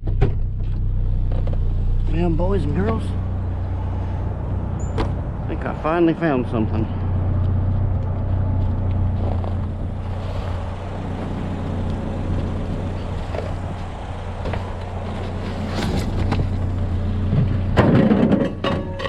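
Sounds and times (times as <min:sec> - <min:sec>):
pickup engine and road drone: 0:00.0 - 0:19.0.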